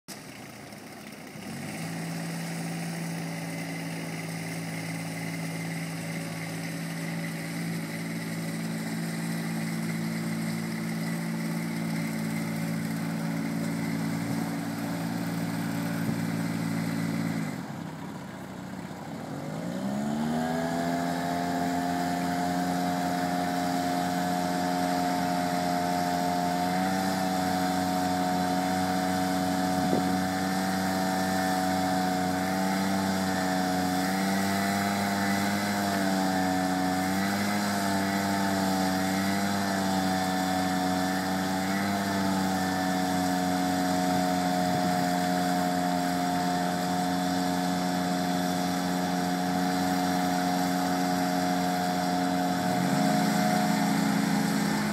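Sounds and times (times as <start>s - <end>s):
ride-on mower running: 0.0s - 54.9s.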